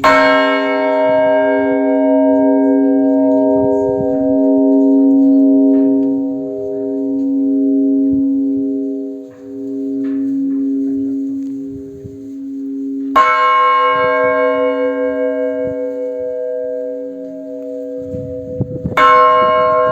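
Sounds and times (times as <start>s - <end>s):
large church bell ringing: 0.0s - 19.9s.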